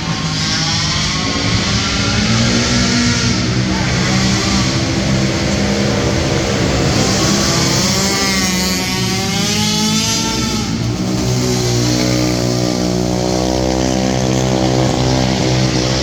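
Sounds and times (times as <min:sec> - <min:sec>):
racing quad engines revving: 0:00.0 - 0:16.0.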